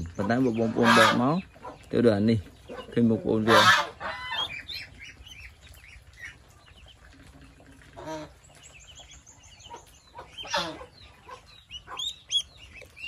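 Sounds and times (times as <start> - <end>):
adult bird calling: 0.0 - 1.9, 2.6 - 6.4, 8.0 - 13.0
ducklings peeping: 0.0 - 13.0.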